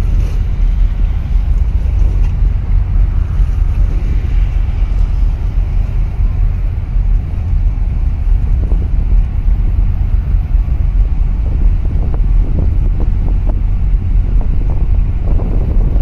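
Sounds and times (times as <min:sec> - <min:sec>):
choppy water washing: 0:00.0 - 0:16.0
wind buffeting microphone: 0:00.0 - 0:16.0.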